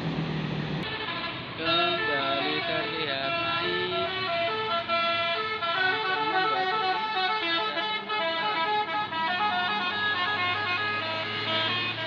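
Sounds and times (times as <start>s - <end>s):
musical air horn playing a tune: 0.8s - 12.0s.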